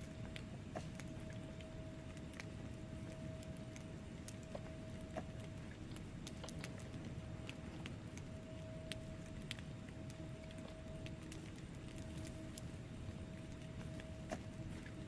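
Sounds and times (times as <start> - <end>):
faint steady hum: 0.0 - 15.0
logs crackling and popping: 0.0 - 15.0
wood fire rumbling: 0.0 - 15.0.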